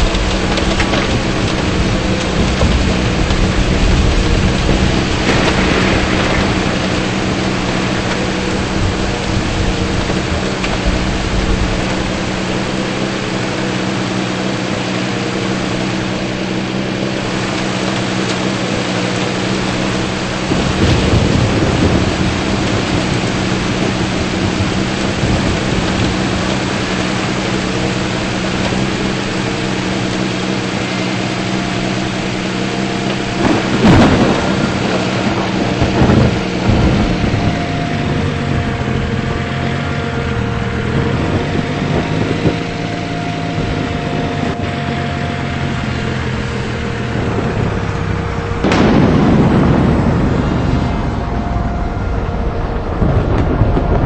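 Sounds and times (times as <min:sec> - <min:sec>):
rain and storm: 0:00.0 - 0:54.0
vehicle engine hum: 0:00.0 - 0:54.0.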